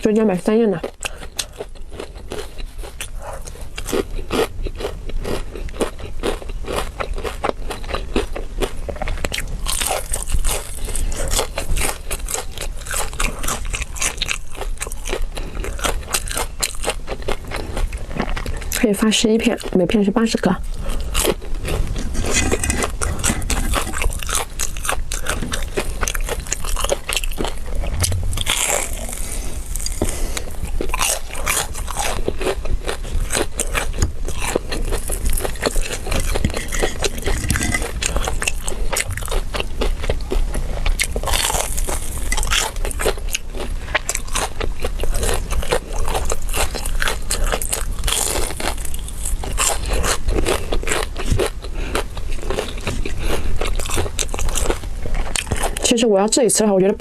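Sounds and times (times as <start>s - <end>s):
crunchy chewing: 0.0s - 56.7s.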